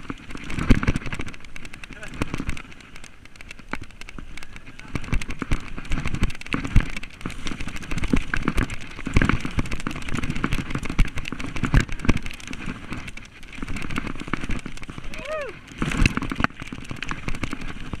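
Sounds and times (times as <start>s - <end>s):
mountain bike rattling over bumps: 0.0s - 18.0s.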